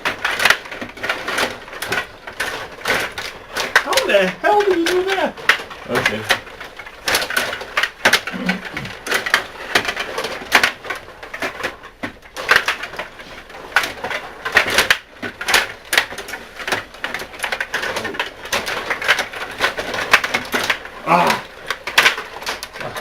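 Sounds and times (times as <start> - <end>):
rod hockey game clacking: 0.0 - 23.0.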